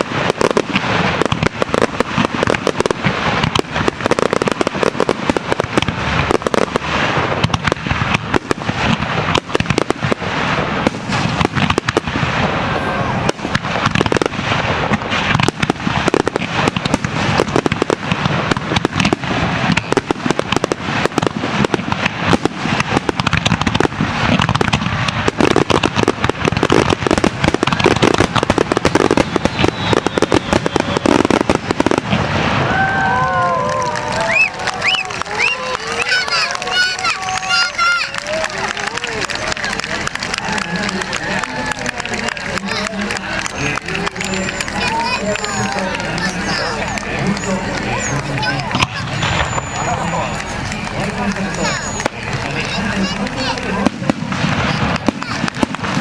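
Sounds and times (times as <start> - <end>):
firework shells bursting and crackling: 0.0 - 56.0.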